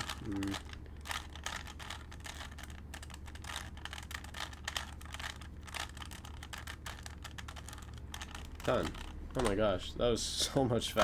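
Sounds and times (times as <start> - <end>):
puzzle cube layers clicking: 0.0 - 9.6.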